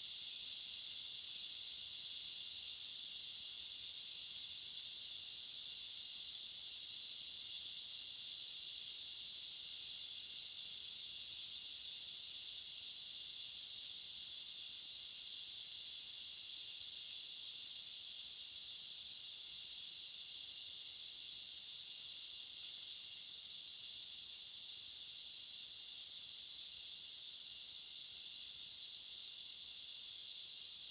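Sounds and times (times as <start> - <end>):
steam hissing from pressure cooker: 0.0 - 30.9.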